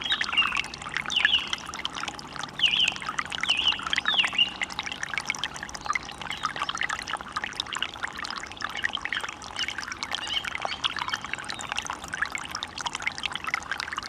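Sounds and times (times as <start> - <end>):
small stream splashing: 0.0 - 14.0.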